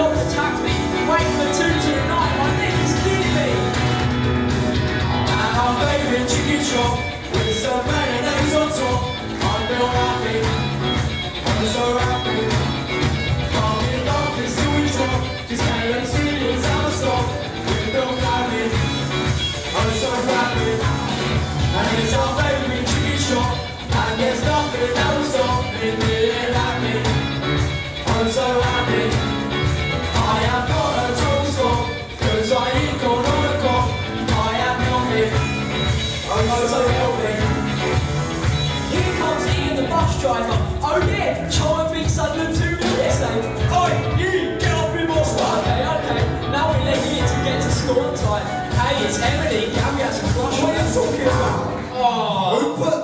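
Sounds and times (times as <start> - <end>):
drum kit beat: 0.0 - 52.5
electric guitars: 0.0 - 52.5
bass guitar: 0.0 - 52.6
vocalists singing: 0.0 - 53.0.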